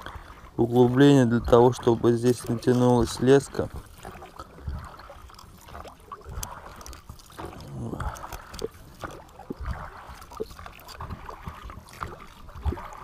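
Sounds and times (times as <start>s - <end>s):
soft water sounds: 0.0s - 13.0s.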